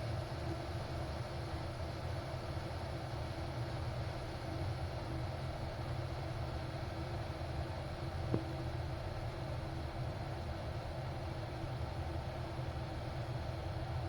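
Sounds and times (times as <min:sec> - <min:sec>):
kettle heating water: 0:00.0 - 0:14.0.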